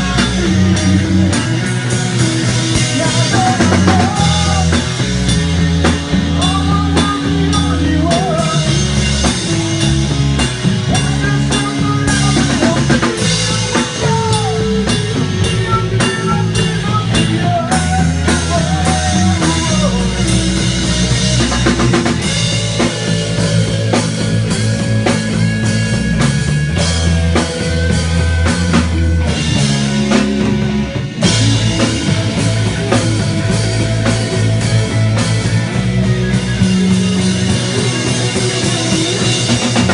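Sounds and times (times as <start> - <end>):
drum kit beat: 0.0 - 39.9
hard rock band playing live: 0.0 - 39.9.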